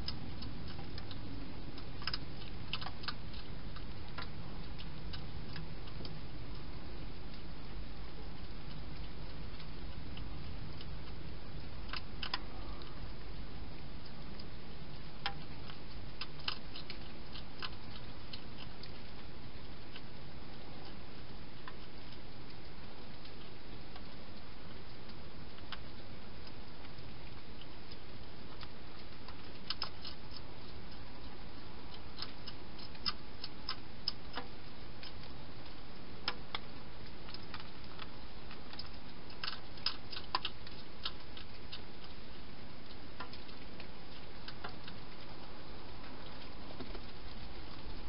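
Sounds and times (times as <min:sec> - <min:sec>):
hedgehog crunching dry food: 0:00.0 - 0:48.0.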